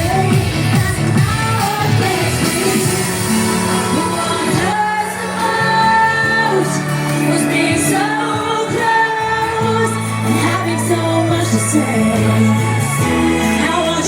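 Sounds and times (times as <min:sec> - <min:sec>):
bass line: 0:00.0 - 0:14.0
synth backing: 0:00.0 - 0:14.0
woman singing: 0:00.0 - 0:14.0.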